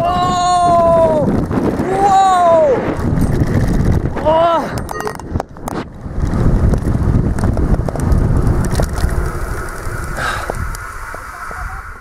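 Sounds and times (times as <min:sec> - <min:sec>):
bike and camera rattling: 0:00.0 - 0:12.0
wind buffeting microphone: 0:00.0 - 0:12.0.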